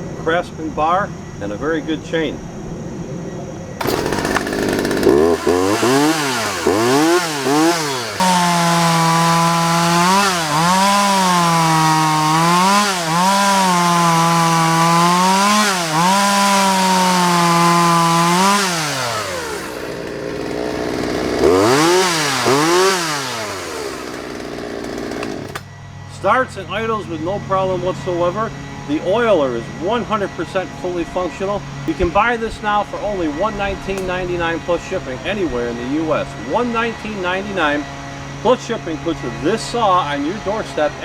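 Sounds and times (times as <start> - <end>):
chainsaw revving and idling: 3.8 - 25.9, 27.4 - 41.0.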